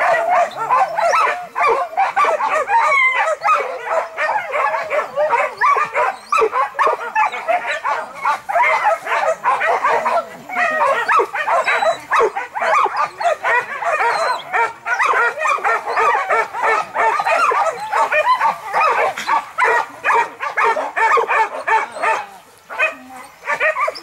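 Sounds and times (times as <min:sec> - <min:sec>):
dogs baying and yelping: 0:00.0 - 0:24.0.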